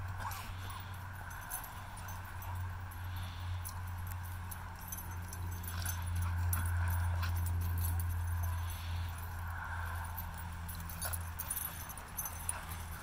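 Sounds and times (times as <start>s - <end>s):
collar tags jingling: 0.0s - 13.0s
steady low rumble: 0.0s - 13.0s.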